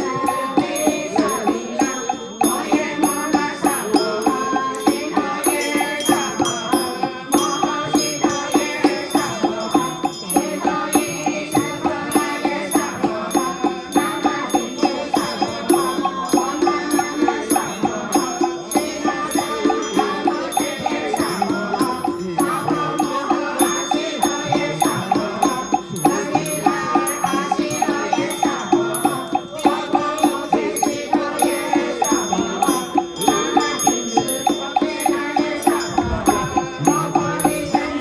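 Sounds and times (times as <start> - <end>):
struck percussion beat: 0.0 - 38.0.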